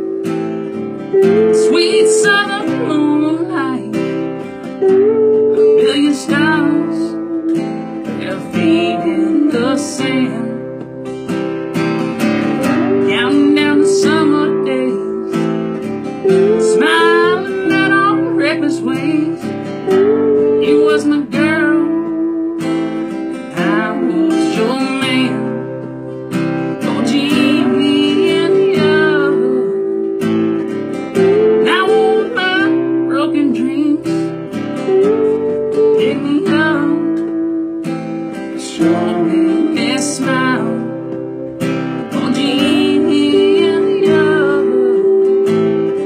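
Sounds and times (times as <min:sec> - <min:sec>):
acoustic guitar music: 0:00.0 - 0:46.0
wavering melody line: 0:00.0 - 0:46.0.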